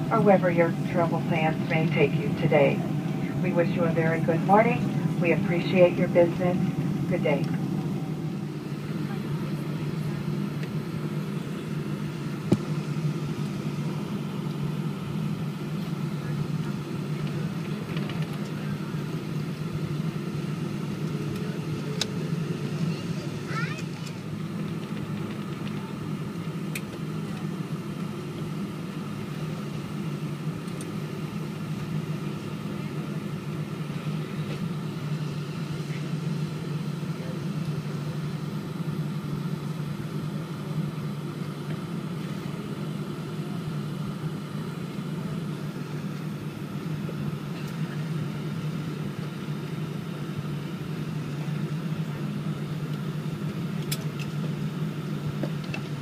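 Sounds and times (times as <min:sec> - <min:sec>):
faint steady whine: 0:00.0 - 0:56.0
jet engines humming at idle: 0:00.0 - 0:56.0.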